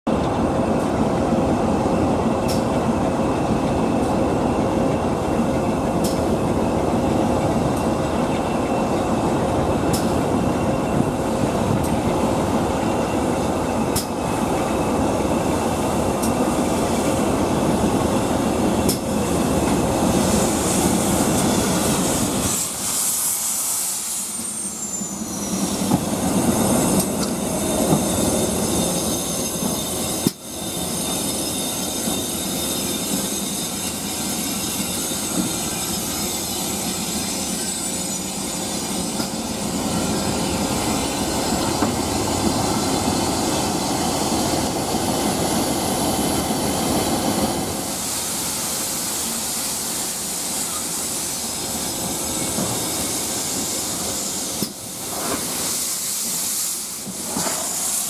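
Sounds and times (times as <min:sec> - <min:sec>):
train rumble and wheel noise: 0:00.0 - 0:58.0.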